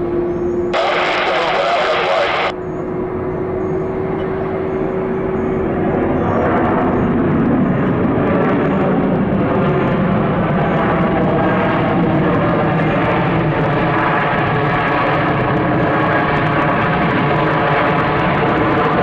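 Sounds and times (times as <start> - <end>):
jet engine roar: 0.0 - 19.0
jet engine whine: 0.0 - 19.0.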